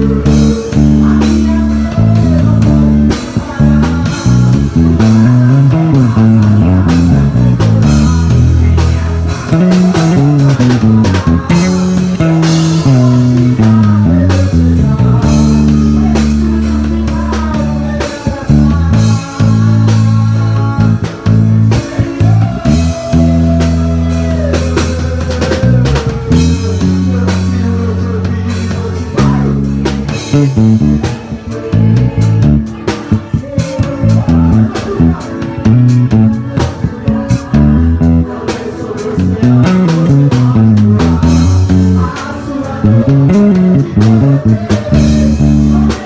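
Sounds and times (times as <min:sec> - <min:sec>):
bass guitar long notes: 0:00.0 - 0:46.0
drum kit keeping time: 0:00.0 - 0:46.0
guitar: 0:00.0 - 0:46.0
sliding melodic lead line: 0:00.0 - 0:46.0.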